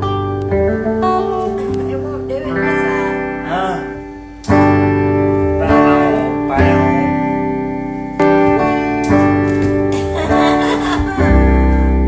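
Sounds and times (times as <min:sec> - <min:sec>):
electric guitar chords ringing: 0:00.0 - 0:12.0.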